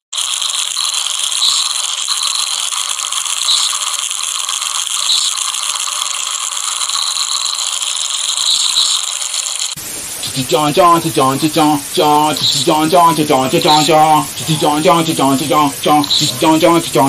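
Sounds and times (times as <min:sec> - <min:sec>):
bright rattling hiss: 0:00.2 - 0:17.0.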